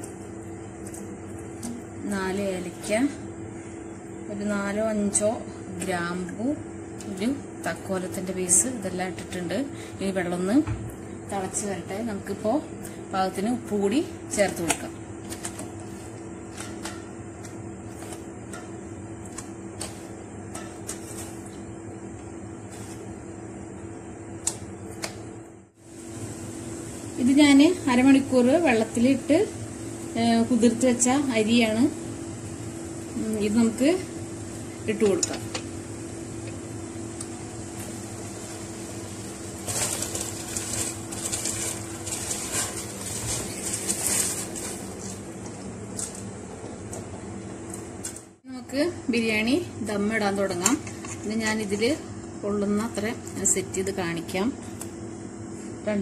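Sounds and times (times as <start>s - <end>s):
low kitchen hum: 0.0s - 56.0s.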